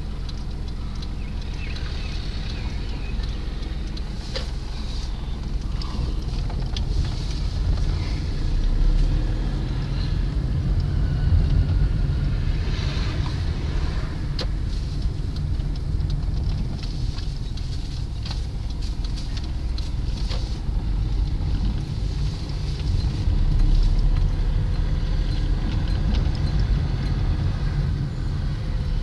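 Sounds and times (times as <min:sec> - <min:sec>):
small clicks and rattles: 0:00.0 - 0:09.1, 0:14.2 - 0:29.0
car engine and road noise: 0:00.0 - 0:29.0.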